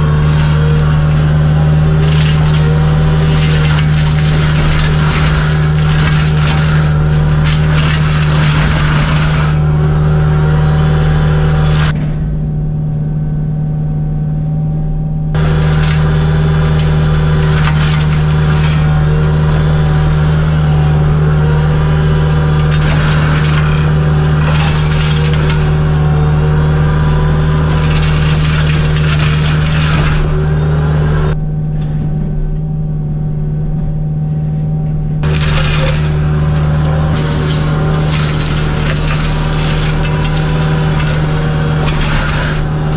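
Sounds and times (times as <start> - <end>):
flail mower shredding brush: 0.0 - 12.0, 15.4 - 31.4, 35.2 - 42.9
diesel engine running: 0.0 - 42.9.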